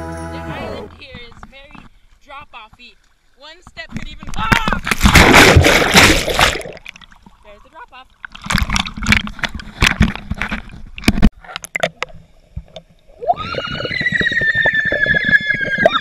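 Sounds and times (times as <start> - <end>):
water splashing and sloshing: 0.9 - 16.0.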